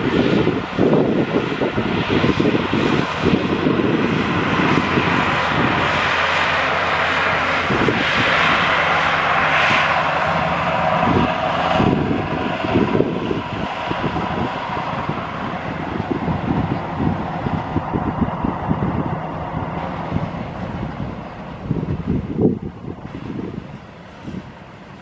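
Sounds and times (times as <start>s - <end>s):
diesel engine running: 0.0s - 25.0s
wind buffeting microphone: 0.0s - 25.0s.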